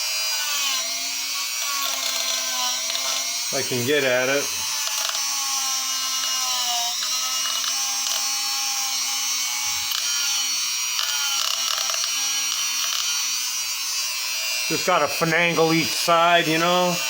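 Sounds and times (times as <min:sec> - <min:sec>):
die grinder motor whine: 0:00.0 - 0:17.0
scratchy grinding on metal: 0:00.3 - 0:17.0.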